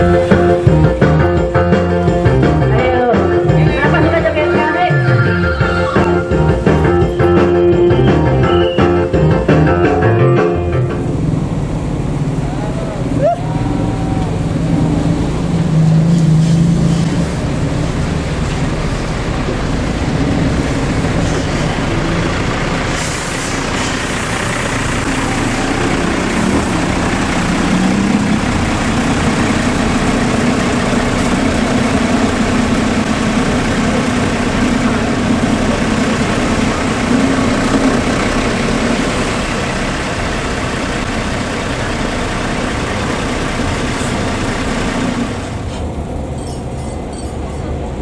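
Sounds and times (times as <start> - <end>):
bus diesel engine running: 0.0 - 48.0.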